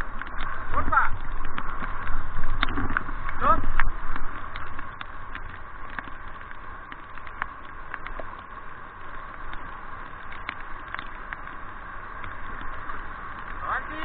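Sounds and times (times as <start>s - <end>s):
river water rushing over stones: 0.0s - 14.0s.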